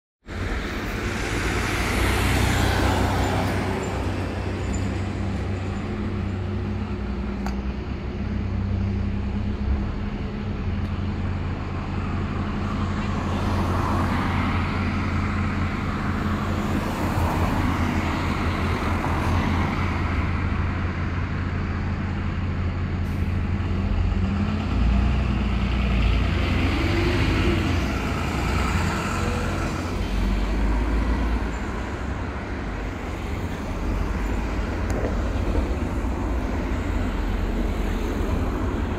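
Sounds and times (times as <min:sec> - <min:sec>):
road traffic noise: 0:00.2 - 0:38.9
bus diesel engine humming: 0:00.3 - 0:38.9.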